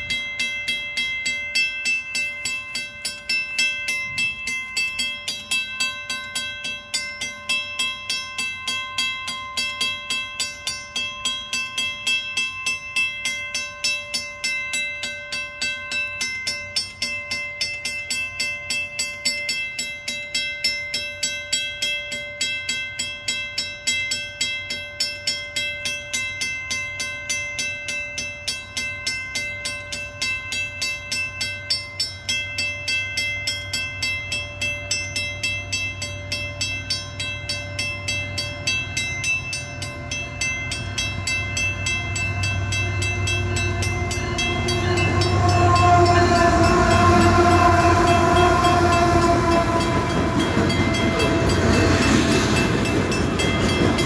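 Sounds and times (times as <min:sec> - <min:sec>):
level crossing bell ringing: 0:00.0 - 0:54.0.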